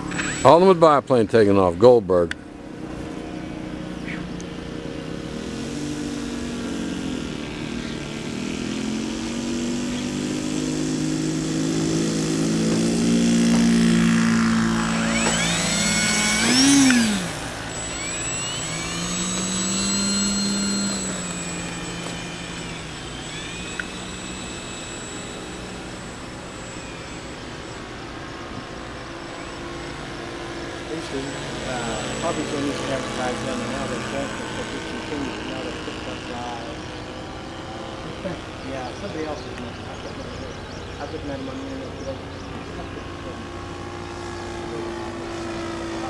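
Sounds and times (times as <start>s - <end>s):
model plane engine high revs: 0.0s - 46.0s.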